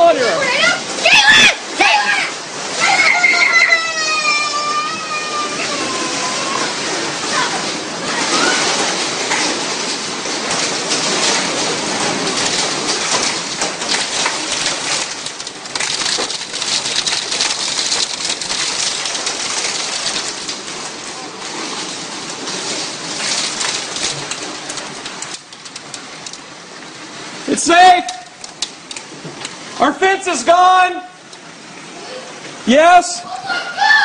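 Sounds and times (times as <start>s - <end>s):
hail and rain pelting: 0.0s - 30.4s.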